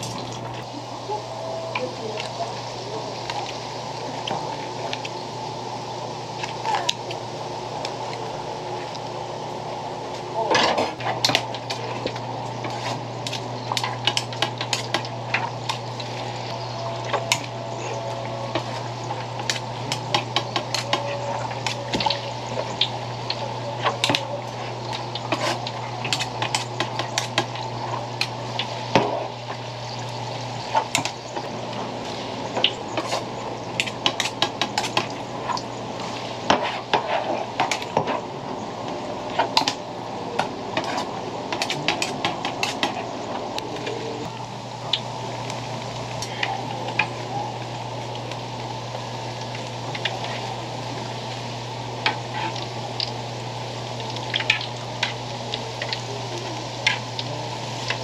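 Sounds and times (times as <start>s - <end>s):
frying oil sizzling: 0.0s - 58.0s
low steady hum: 0.0s - 58.0s.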